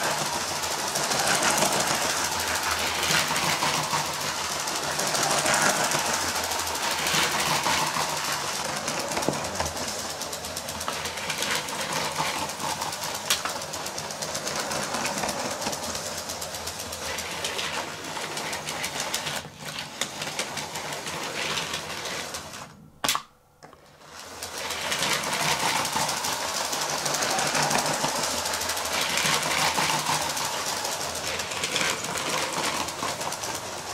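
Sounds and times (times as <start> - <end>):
plastic wheels rattling on track: 0.0 - 22.8, 23.9 - 33.9
toy train motor running: 0.0 - 22.8, 23.9 - 33.9.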